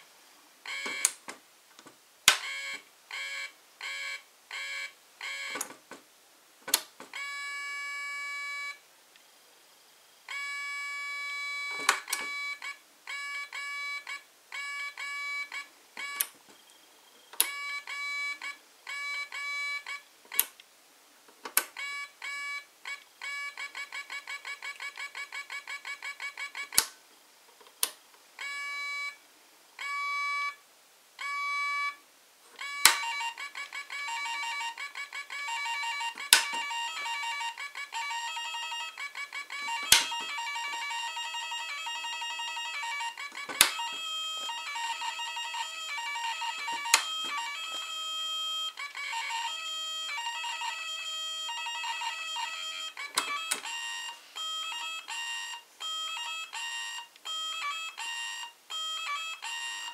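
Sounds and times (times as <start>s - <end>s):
electronic toy beeps and melodies: 0.7s - 1.2s, 2.4s - 5.7s, 7.1s - 8.8s, 10.3s - 20.5s, 21.7s - 26.9s, 28.4s - 29.2s, 29.8s - 30.6s, 31.2s - 32.0s, 32.6s - 59.9s.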